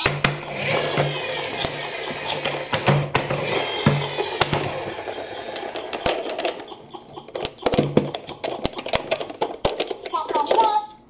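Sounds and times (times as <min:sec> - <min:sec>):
plastic toy clicks and knocks: 0:00.0 - 0:11.0.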